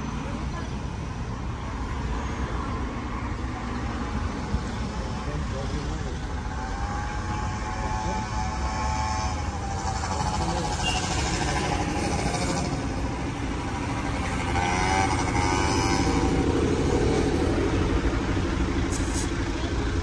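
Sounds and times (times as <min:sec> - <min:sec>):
passers-by talking: 0:00.0 - 0:20.0
vehicle engine running: 0:03.3 - 0:20.0.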